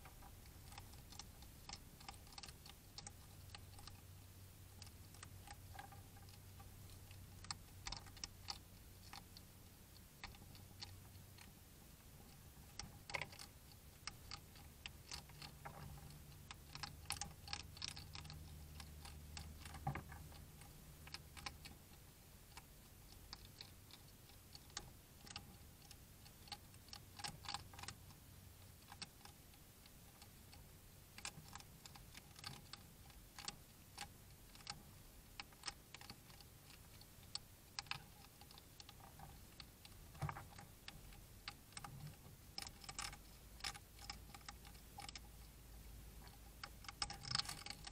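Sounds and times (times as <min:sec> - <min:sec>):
hedgehogs crunching food: 0:04.7 - 0:45.4, 0:46.1 - 0:47.9.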